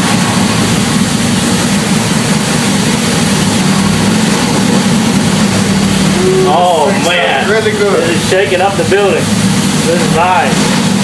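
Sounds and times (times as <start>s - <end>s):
big vee eight engine running: 0.0s - 11.0s.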